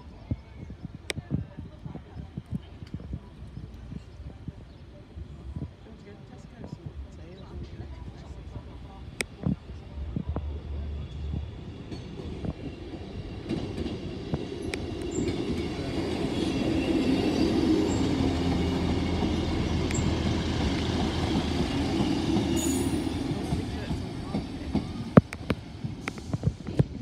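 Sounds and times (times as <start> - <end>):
diesel train engine: 5.1 - 27.0
train wheels rumbling on rails: 5.3 - 27.0.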